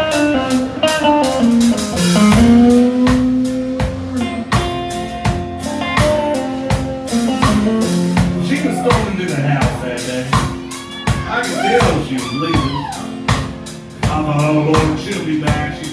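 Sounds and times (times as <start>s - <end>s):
drum kit beats: 0.0s - 15.9s
electric guitars: 0.0s - 15.9s.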